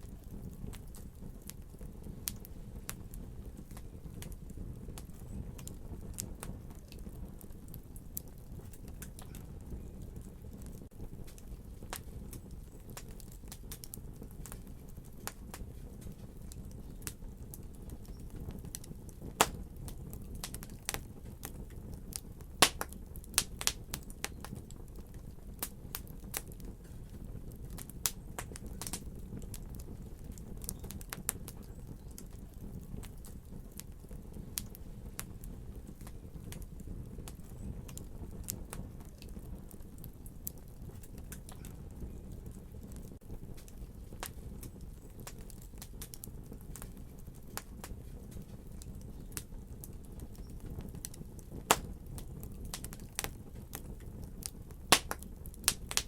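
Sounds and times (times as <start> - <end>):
fire crackling and popping: 0.0 - 56.0
low rumble of fire: 0.0 - 56.0.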